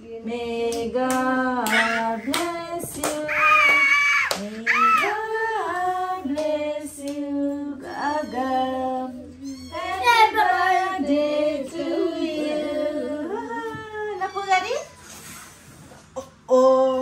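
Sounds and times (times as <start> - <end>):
voices singing together: 0.0 - 14.2, 16.5 - 17.0.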